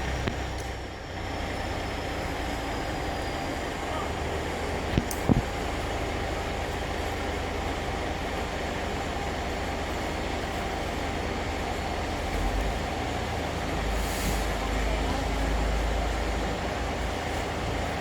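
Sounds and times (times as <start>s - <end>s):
large engine running: 0.0s - 18.0s.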